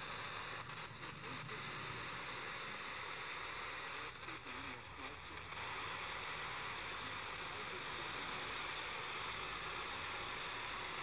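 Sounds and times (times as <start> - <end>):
radio static hiss: 0.0 - 11.0
faint voice on radio: 0.4 - 11.0.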